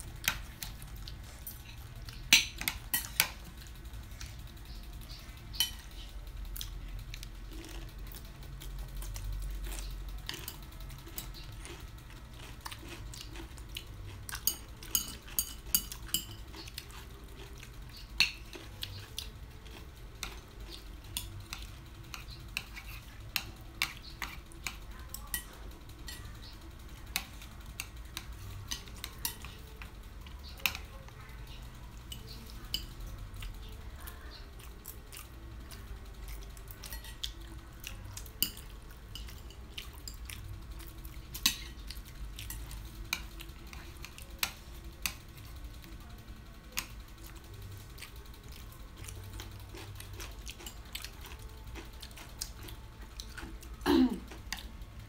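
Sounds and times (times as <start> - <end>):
chopsticks clicking on plates: 0.1 - 46.1, 46.7 - 54.8.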